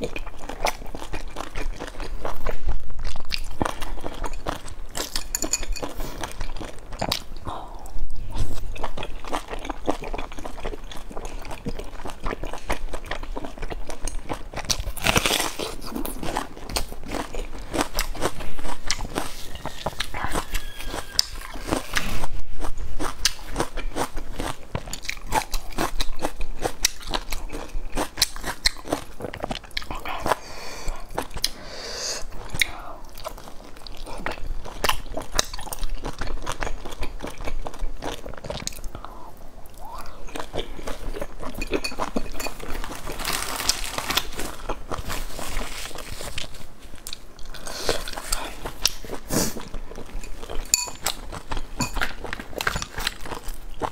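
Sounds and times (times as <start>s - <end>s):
biting and chewing dumpling: 0.0s - 31.6s, 32.2s - 53.9s.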